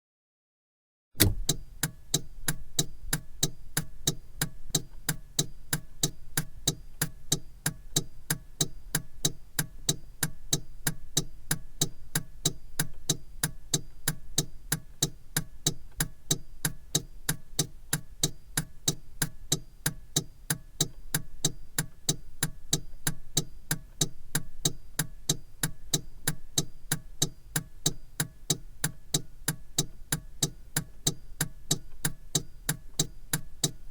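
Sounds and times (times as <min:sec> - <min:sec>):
turn signal ticking: 0:01.2 - 0:33.9.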